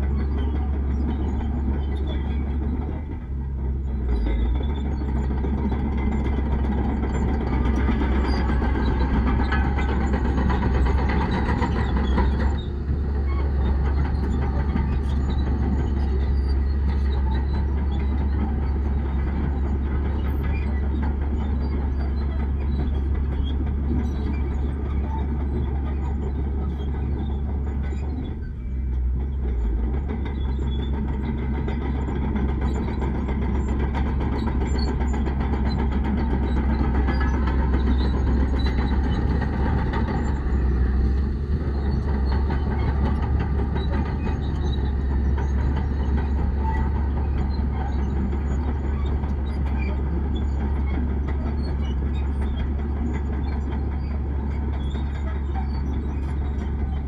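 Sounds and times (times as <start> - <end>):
diesel earthmoving machinery rumble: 0.0 - 57.0.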